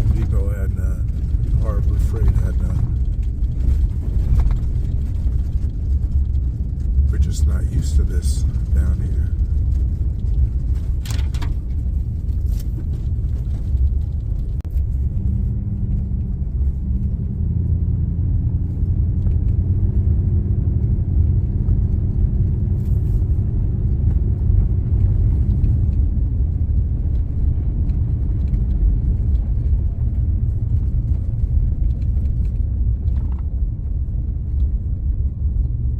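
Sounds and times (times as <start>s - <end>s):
vehicle driving rumble: 0.0s - 35.9s.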